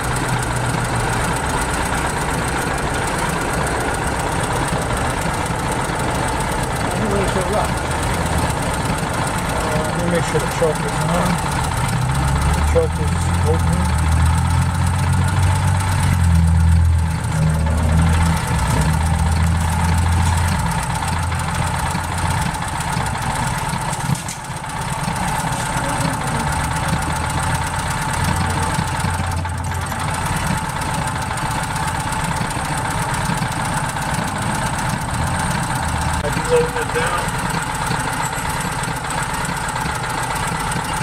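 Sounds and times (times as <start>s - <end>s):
generator engine running: 0.0s - 41.0s.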